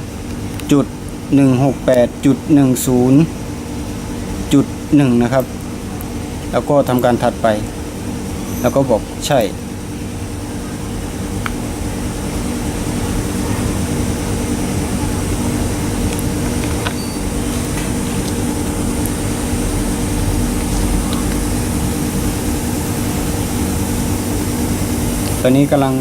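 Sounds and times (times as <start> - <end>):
electric fan humming: 0.0 - 26.0.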